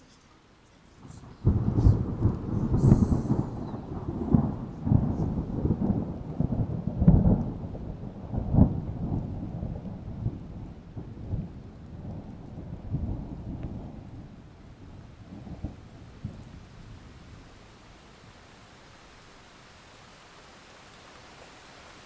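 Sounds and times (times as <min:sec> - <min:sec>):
rain: 0:00.0 - 0:22.0
thunder rumbling: 0:01.0 - 0:19.4.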